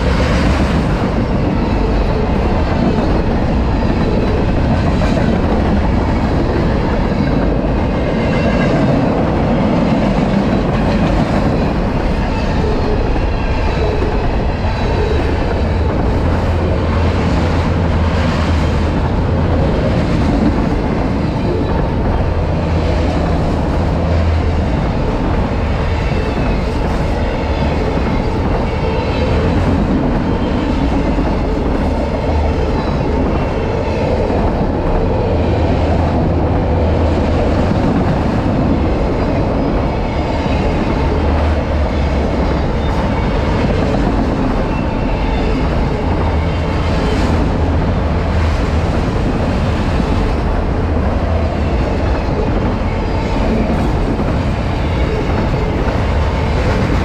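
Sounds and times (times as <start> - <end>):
freight train rumble and clatter: 0.0 - 57.0.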